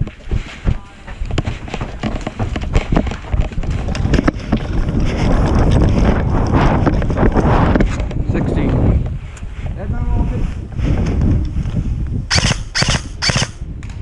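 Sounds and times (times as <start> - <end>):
quick footsteps: 0.0 - 14.0
wind buffeting microphone: 0.0 - 14.0.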